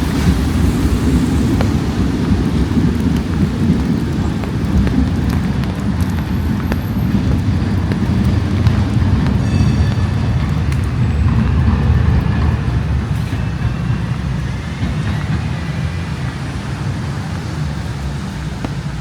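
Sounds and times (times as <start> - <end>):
low city rumble: 0.0 - 19.0
rain hiss: 0.0 - 19.0
raindrop ticks: 0.0 - 19.0.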